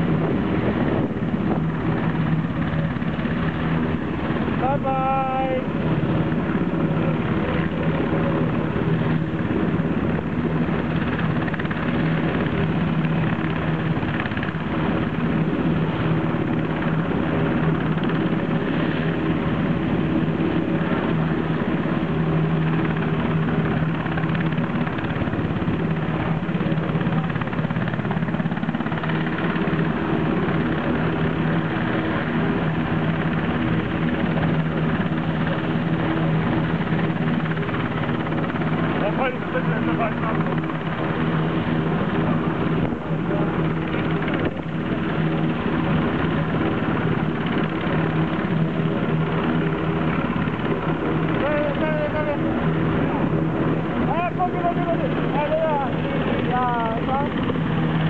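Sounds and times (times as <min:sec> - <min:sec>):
helicopter running close by: 0:00.0 - 0:58.0.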